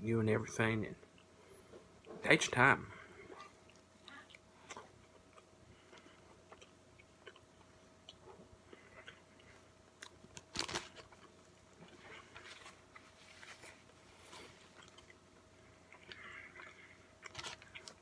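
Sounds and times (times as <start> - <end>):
person chewing food: 3.0 - 18.0.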